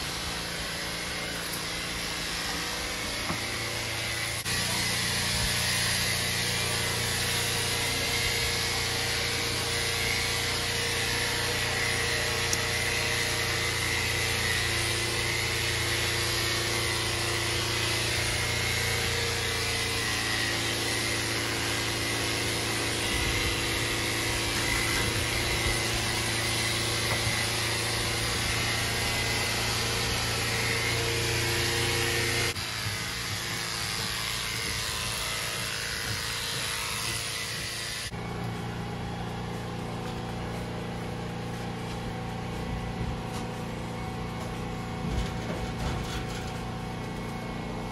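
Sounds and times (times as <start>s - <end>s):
electric clippers buzzing: 0.0s - 47.9s.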